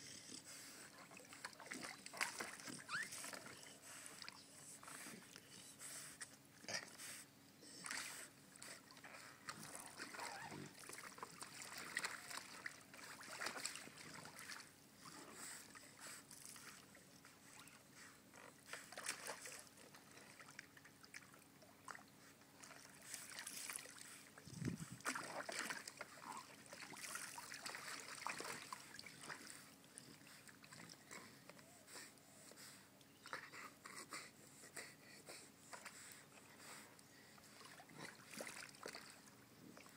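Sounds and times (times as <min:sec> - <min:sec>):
water splashing and sloshing: 0:00.6 - 0:05.4, 0:07.8 - 0:31.6, 0:35.7 - 0:39.9.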